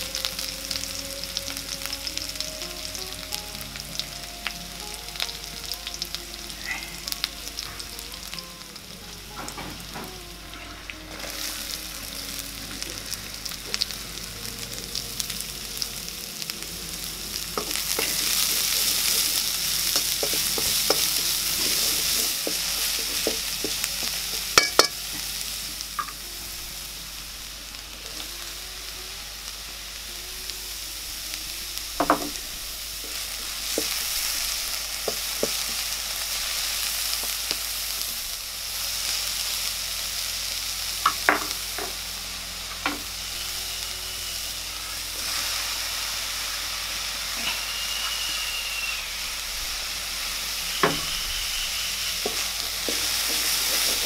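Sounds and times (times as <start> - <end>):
onions sizzling in hot oil: 0.0 - 54.0.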